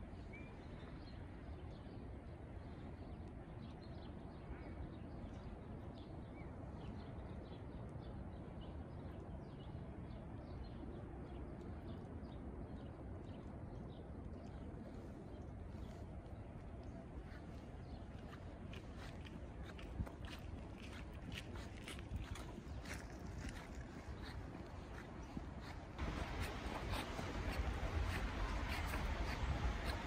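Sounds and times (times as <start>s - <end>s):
small birds chirping: 3.0s - 30.0s.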